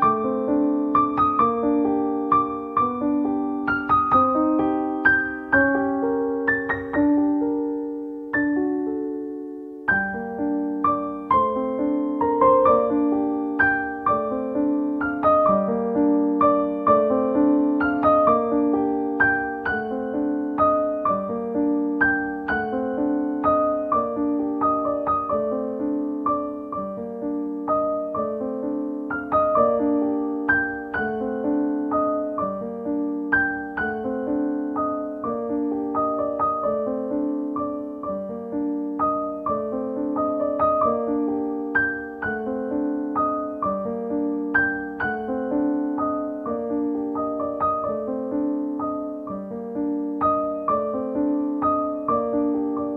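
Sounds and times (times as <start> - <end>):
gentle piano music: 0.0 - 52.9.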